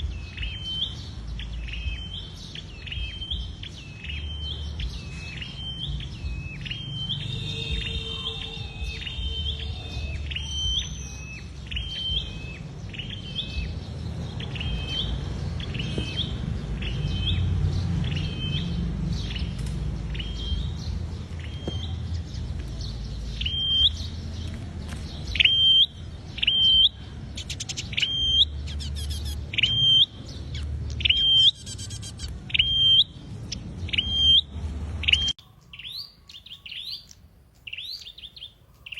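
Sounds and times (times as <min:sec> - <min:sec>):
bird twittering: 0:00.0 - 0:24.5, 0:25.1 - 0:38.9
bird chirping: 0:00.0 - 0:38.9.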